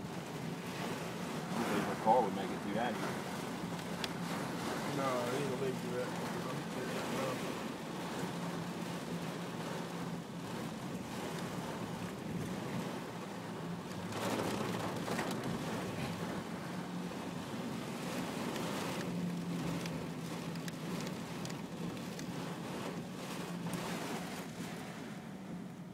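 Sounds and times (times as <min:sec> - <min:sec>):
engine and road hum: 0:00.0 - 0:25.9
rushing rain and water: 0:00.0 - 0:25.9.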